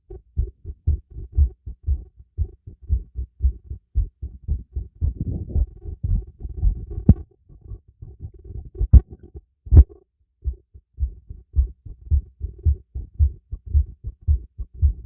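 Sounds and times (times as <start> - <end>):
heartbeat through a stethoscope: 0.1 - 15.0.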